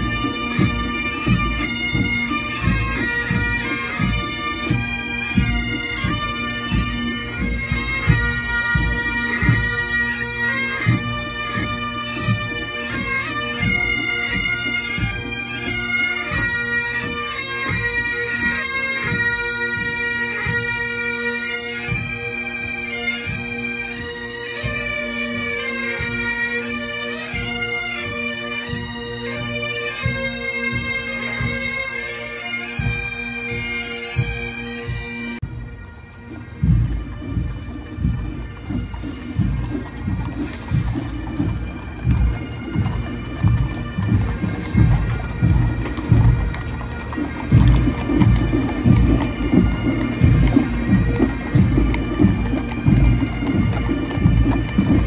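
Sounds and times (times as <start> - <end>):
bagpipes playing a tune: 0.0 - 55.0.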